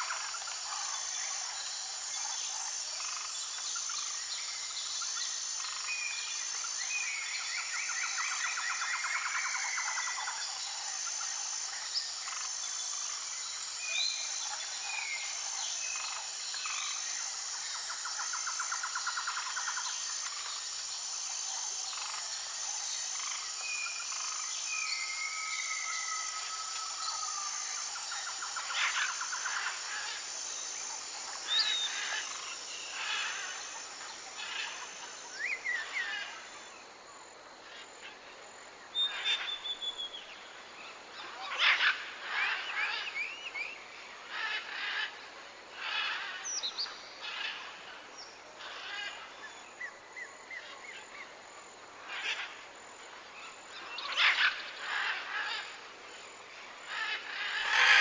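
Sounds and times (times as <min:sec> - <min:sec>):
forest birds calling: 0:00.0 - 0:37.0, 0:37.6 - 0:58.0
high insect drone: 0:00.0 - 0:58.0.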